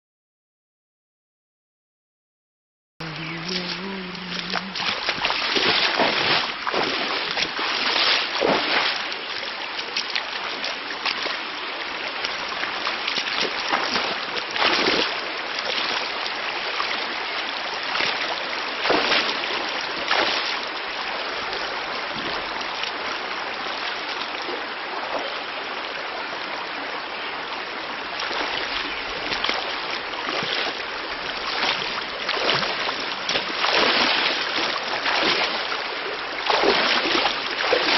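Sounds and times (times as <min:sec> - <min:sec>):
feet wading through water: 0:03.0 - 0:37.9
river rushing over stones: 0:03.0 - 0:37.9.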